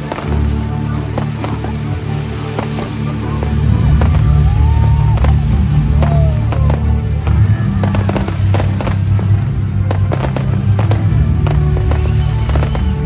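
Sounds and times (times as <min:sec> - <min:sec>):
fireworks bangs and crackles: 0:00.0 - 0:13.0
loud music with bass: 0:00.0 - 0:13.0.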